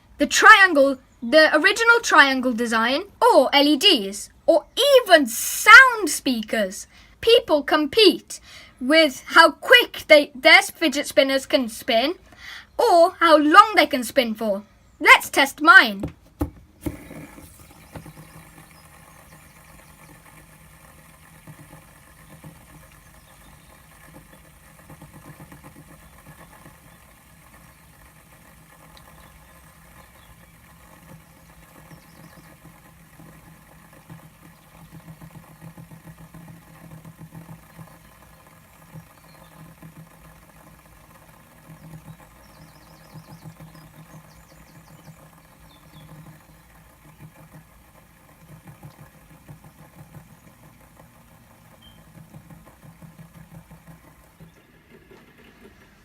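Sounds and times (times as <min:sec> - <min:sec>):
fidget spinner whirring: 0:00.0 - 0:16.0, 0:16.7 - 0:56.0.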